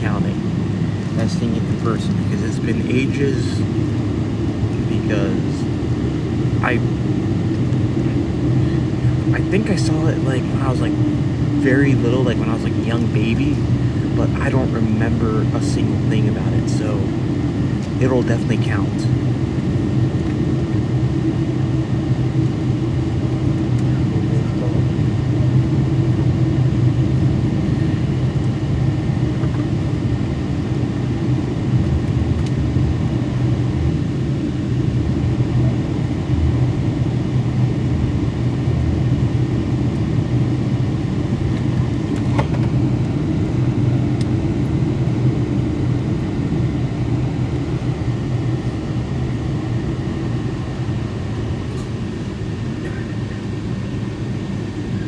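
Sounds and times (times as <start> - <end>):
aircraft engines low rumble: 0.0 - 55.0.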